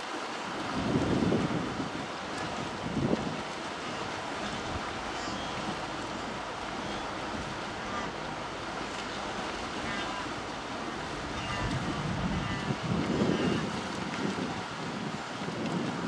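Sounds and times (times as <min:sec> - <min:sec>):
river water: 0:00.0 - 0:16.0
wind on microphone: 0:00.4 - 0:16.0.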